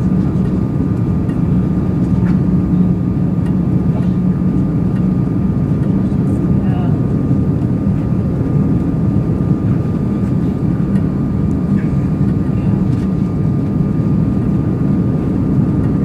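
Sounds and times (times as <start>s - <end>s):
airplane cabin engine rush: 0.0s - 16.0s.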